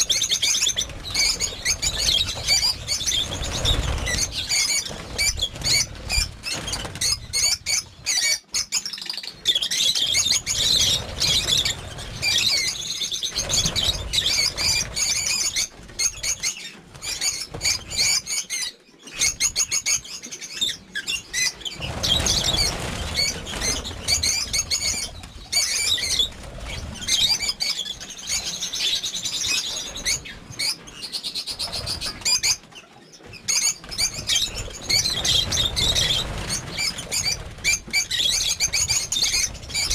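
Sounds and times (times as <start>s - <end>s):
wings flapping: 0.0s - 8.2s, 10.1s - 18.2s, 21.1s - 39.9s
birds chirping: 0.0s - 39.9s.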